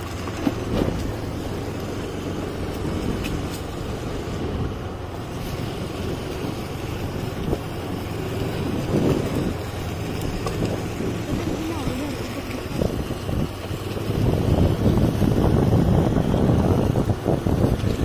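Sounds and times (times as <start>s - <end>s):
motorbike engine hum: 0.0s - 18.0s
wind buffeting microphone: 0.0s - 18.0s.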